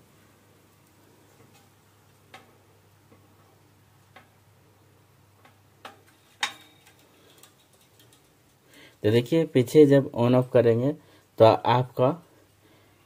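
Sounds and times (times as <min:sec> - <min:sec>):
room heater electrical hum: 0:00.0 - 0:13.0.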